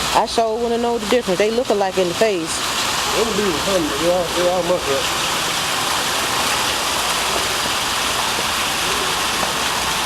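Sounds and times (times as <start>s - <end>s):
waterfall splashing: 0.0s - 10.0s.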